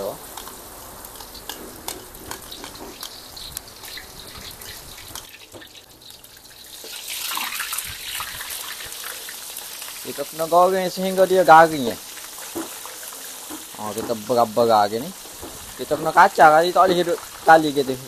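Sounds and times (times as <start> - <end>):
deep-frying sizzle with pops: 0.0 - 18.0.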